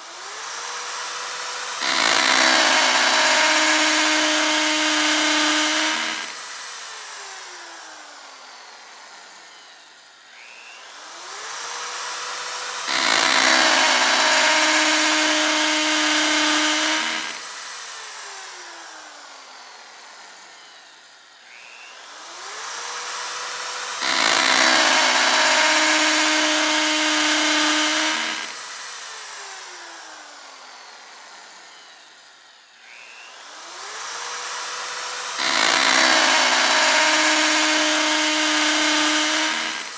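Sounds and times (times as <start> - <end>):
electric drill whirring: 0.0 - 39.9.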